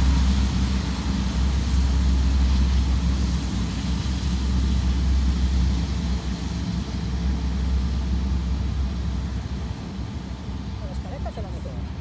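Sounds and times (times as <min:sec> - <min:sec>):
jet engines taxiing: 0:00.0 - 0:12.0.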